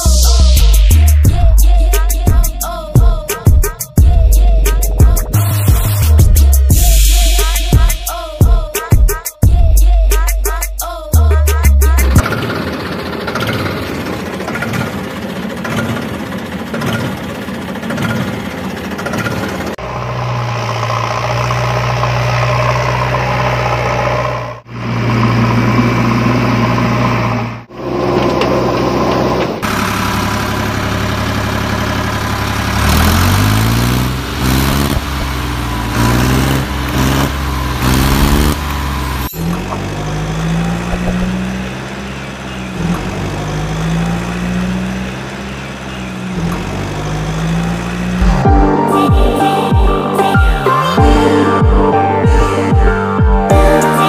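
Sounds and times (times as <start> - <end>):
engine revving: 0.0 - 49.5
engine drone: 0.0 - 54.0.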